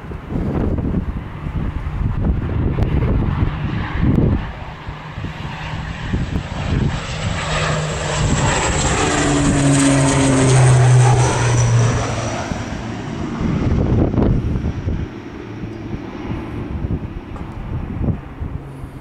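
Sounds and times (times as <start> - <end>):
turboprop aircraft taking off: 0.0 - 19.0.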